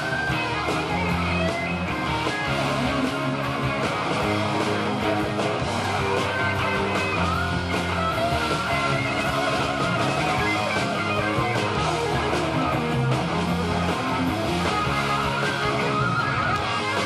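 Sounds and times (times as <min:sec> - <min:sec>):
guitar-led country band music: 0:00.0 - 0:17.0.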